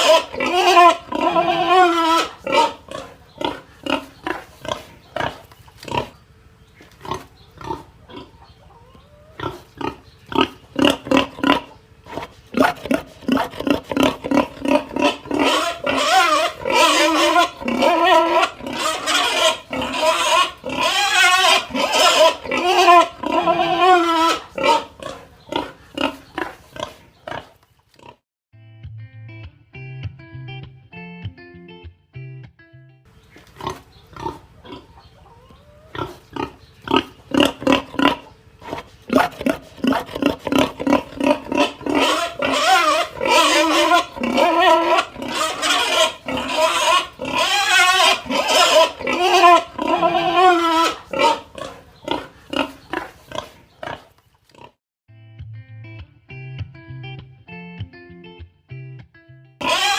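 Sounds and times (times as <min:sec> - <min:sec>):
pig squealing and grunting: 0:00.0 - 0:06.2, 0:06.9 - 0:28.2, 0:33.5 - 0:54.8, 0:59.6 - 0:59.9.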